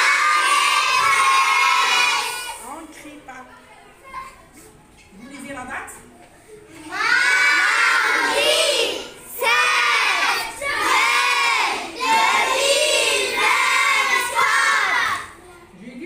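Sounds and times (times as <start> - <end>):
children reading aloud in unison: 0.0 - 2.8, 3.5 - 5.4, 6.4 - 15.8.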